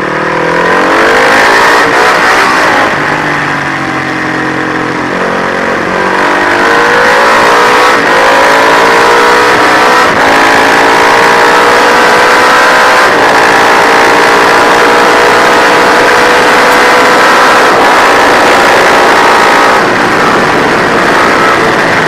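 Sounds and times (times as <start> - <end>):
racing motorcycle engine revving: 0.0 - 22.0
wind noise: 0.8 - 22.0.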